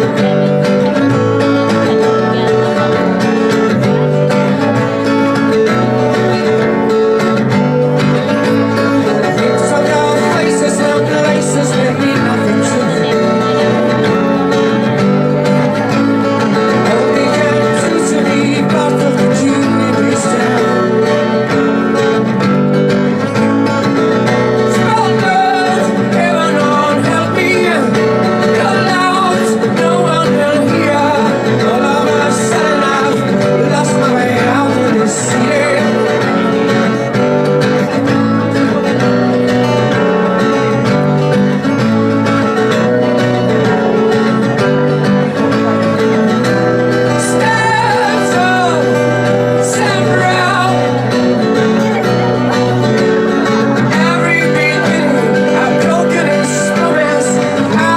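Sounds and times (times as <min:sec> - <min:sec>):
person singing: 0:00.0 - 0:57.9
plucked strings playing: 0:00.0 - 0:57.9.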